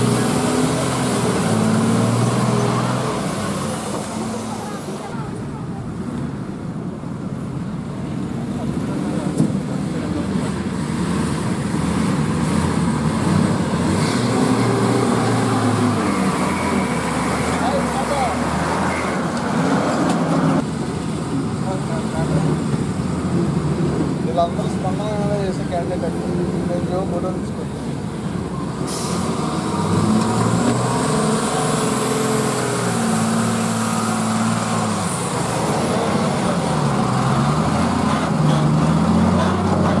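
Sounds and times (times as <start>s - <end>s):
truck diesel engine droning: 0.0s - 40.0s.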